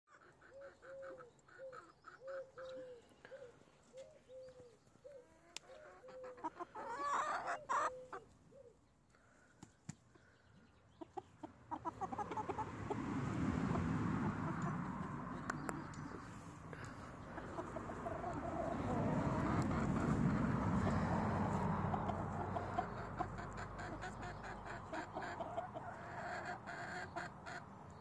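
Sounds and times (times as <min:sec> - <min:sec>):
chickens clucking: 0:00.1 - 0:08.4, 0:09.6 - 0:28.0.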